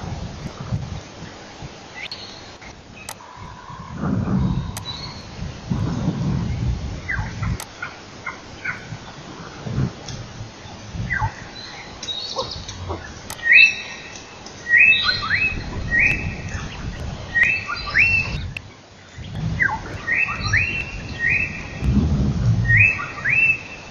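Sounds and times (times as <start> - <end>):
low rumbling noise: 0.0 - 23.9
wild birds singing: 0.0 - 23.9.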